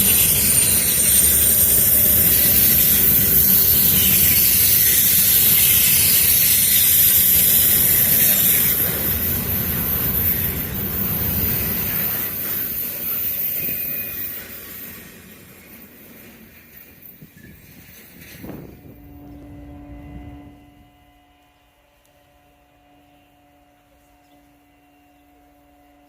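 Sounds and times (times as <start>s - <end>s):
freight train rolling on rails: 0.0s - 21.7s.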